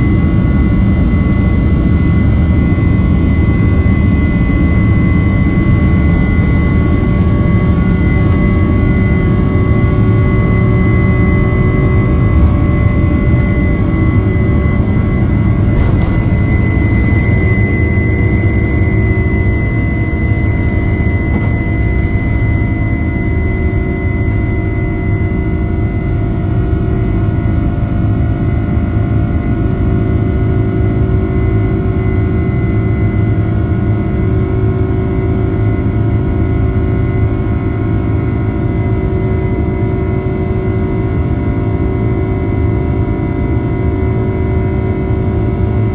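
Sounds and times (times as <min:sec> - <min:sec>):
jet engines rumbling: 0:00.0 - 0:39.9
jet engine whine: 0:00.0 - 0:45.9.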